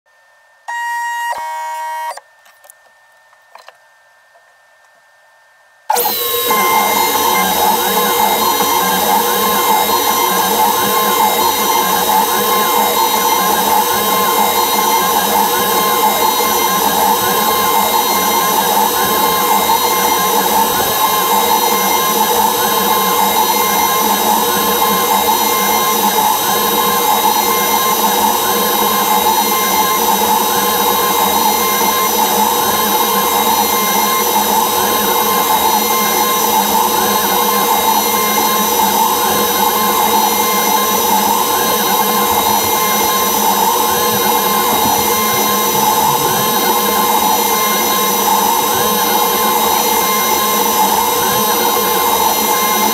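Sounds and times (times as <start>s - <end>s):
cnc router spindle whine: 0.1s - 3.8s, 4.6s - 52.9s
router bit carving wood: 0.7s - 2.2s, 5.9s - 52.9s.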